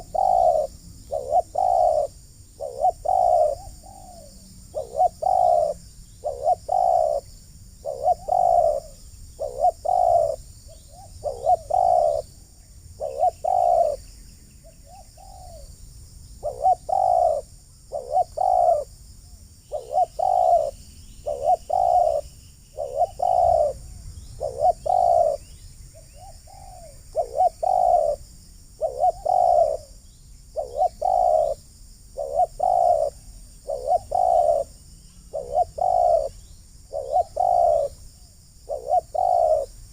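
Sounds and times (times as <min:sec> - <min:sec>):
doves cooing: 0:00.0 - 0:12.4, 0:13.0 - 0:14.1, 0:14.7 - 0:15.7, 0:16.4 - 0:18.9, 0:19.7 - 0:23.8, 0:24.4 - 0:28.2, 0:28.8 - 0:30.0, 0:30.6 - 0:31.6, 0:32.2 - 0:38.0, 0:38.6 - 0:39.8.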